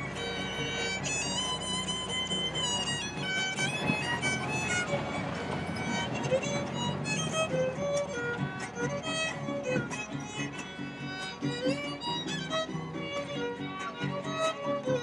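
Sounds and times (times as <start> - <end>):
strummed string accompaniment: 0.0 - 15.0
violin playing quick melody: 0.0 - 15.0.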